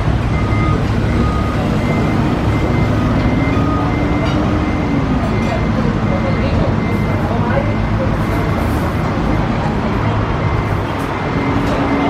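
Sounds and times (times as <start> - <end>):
heavy truck engine running: 0.0 - 12.0
short warning beeps: 0.3 - 12.0.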